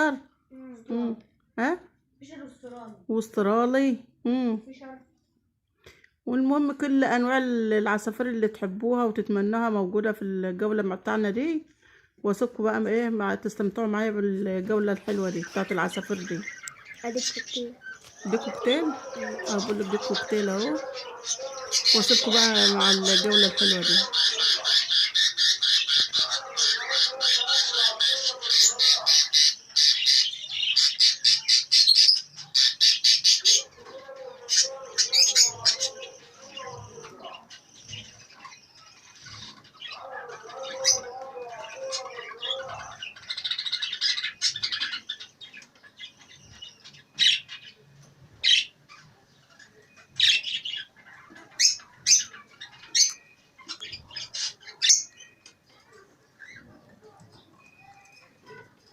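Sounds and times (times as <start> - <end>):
caged birds squawking and chirping: 5.8 - 58.9.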